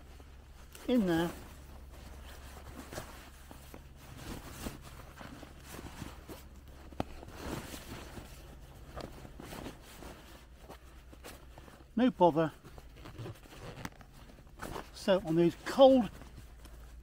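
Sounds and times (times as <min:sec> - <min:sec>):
rucksack fabric rustling: 0:00.0 - 0:17.0.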